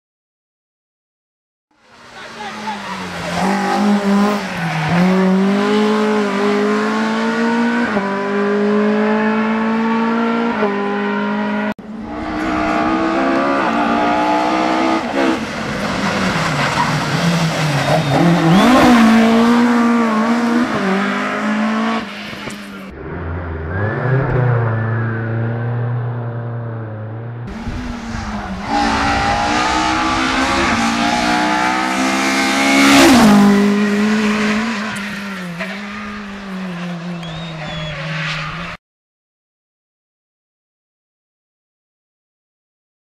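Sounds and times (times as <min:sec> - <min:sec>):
rally car engine at high revs: 0:02.0 - 0:38.8.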